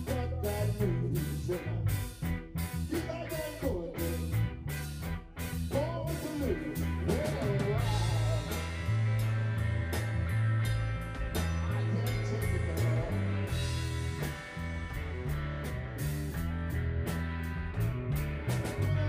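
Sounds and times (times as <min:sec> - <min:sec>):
bass guitar: 0:00.0 - 0:19.0
drum kit beat: 0:00.0 - 0:19.0
electric guitar: 0:00.0 - 0:19.0.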